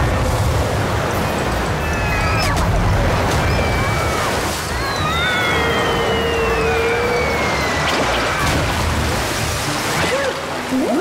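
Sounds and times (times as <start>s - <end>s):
background music: 0.0s - 11.0s
cartoon waterfall rushing: 0.0s - 11.0s.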